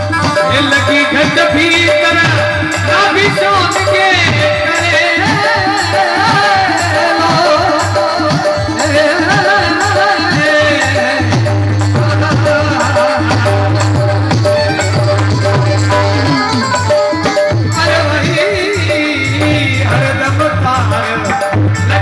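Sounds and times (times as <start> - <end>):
hand drum: 0.0 - 22.0
person singing: 0.0 - 22.0
rattling percussion: 0.0 - 22.0.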